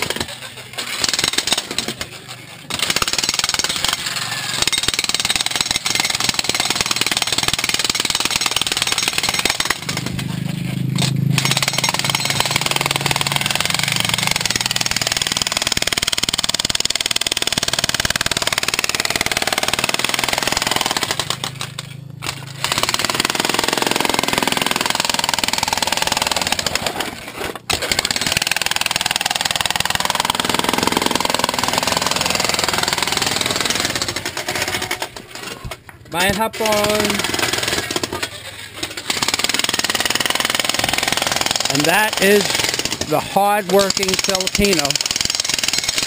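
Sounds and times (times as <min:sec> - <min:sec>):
jackhammer hammering rock: 0:00.0 - 0:46.0.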